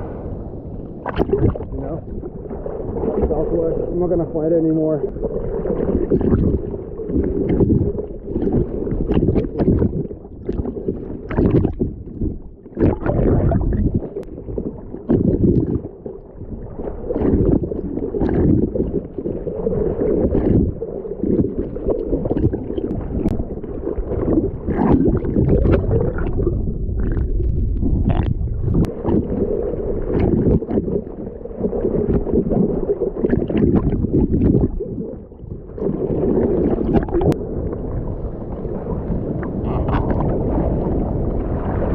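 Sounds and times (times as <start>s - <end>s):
muffled water sloshing: 0.0s - 41.9s.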